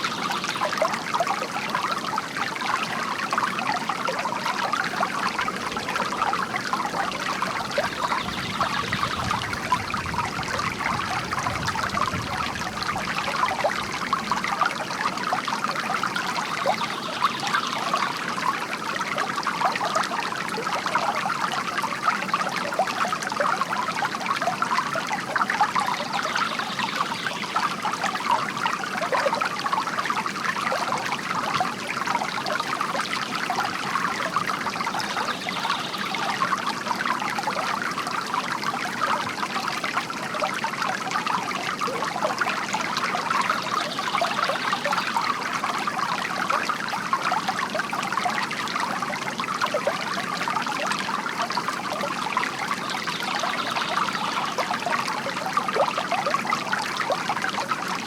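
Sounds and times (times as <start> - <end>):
fountain water trickling and splashing: 0.0 - 58.0.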